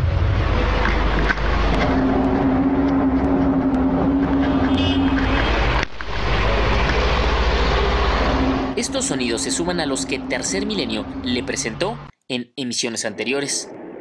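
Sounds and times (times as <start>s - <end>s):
loud rushing and rumbling noise: 0.0s - 12.1s
low drone: 0.0s - 12.1s.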